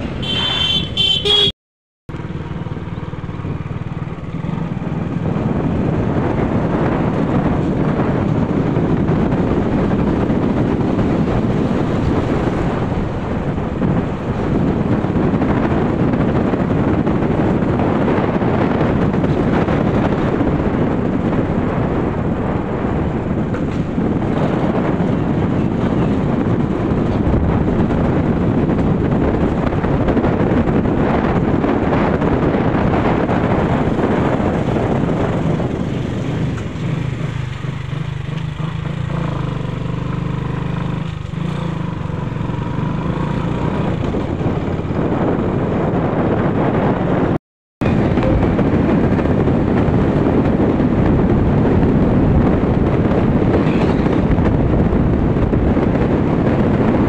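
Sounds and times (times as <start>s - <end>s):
motorcycle engine hum: 0.0s - 57.0s
wind rushing on microphone: 2.2s - 57.0s.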